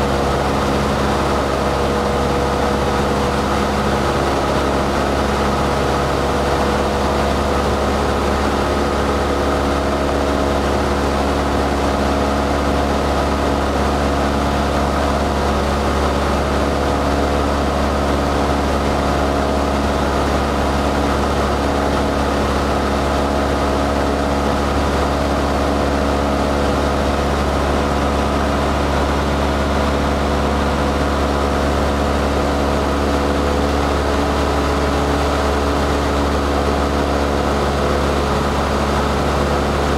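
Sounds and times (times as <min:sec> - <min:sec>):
airplane engine drone from cabin: 0:00.0 - 0:39.9.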